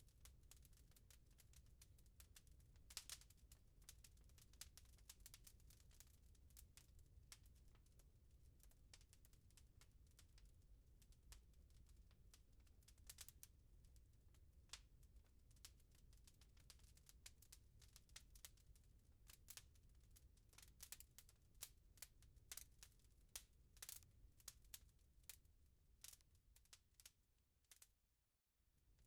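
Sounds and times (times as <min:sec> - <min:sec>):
wood fire crackling: 0:00.2 - 0:07.8, 0:11.1 - 0:27.8.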